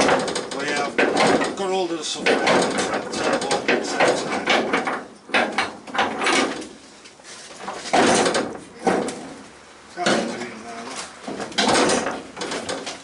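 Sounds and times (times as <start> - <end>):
metallic clunks: 0.0 - 6.8, 7.7 - 9.4, 10.0 - 10.5, 11.2 - 13.0.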